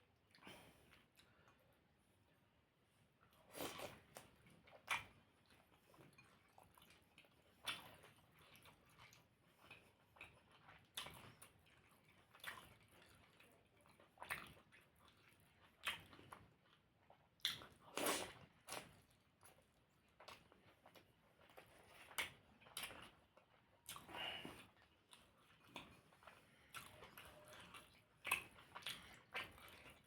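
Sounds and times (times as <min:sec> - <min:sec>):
biting and chewing food: 0:03.5 - 0:30.0.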